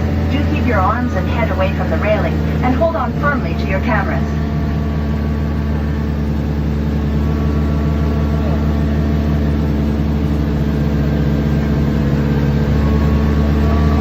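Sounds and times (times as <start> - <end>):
vehicle engine running under load: 0.0 - 14.0.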